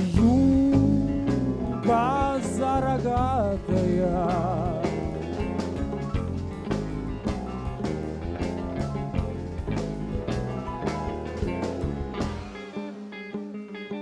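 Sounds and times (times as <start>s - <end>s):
drum beat: 0.0s - 12.8s
bass and guitar: 0.0s - 14.0s.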